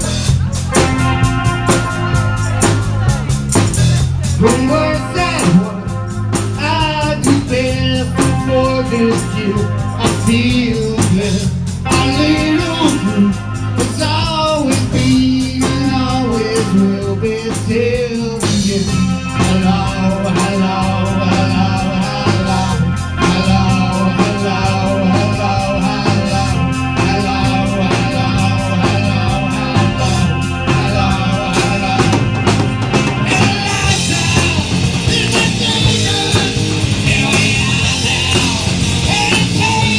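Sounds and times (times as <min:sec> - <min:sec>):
electric guitar lead bending: 0:00.0 - 0:39.9
live rock band playing: 0:00.0 - 0:39.9.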